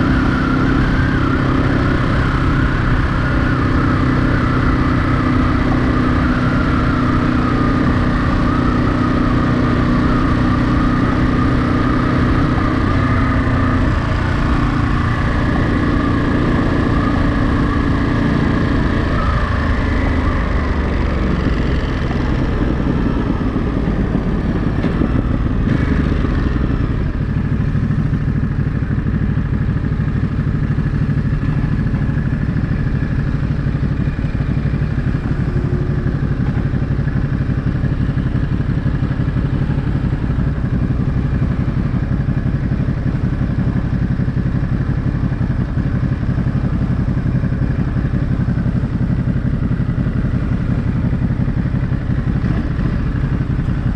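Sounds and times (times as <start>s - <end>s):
motorcycle engine running at low speed: 0.0s - 53.9s.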